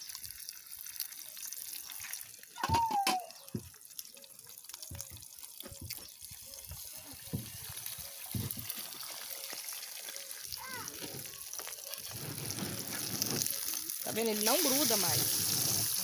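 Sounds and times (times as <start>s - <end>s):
eggs sizzling in oil: 0.0s - 16.0s.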